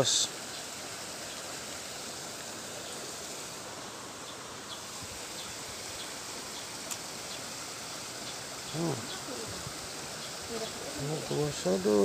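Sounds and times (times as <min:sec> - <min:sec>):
water flowing in a concrete channel: 0:00.0 - 0:12.0.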